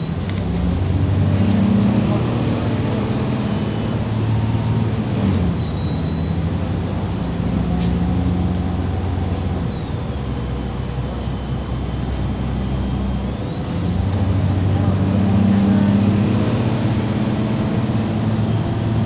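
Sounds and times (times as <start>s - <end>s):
bus engine drone with whine: 0.0s - 19.0s.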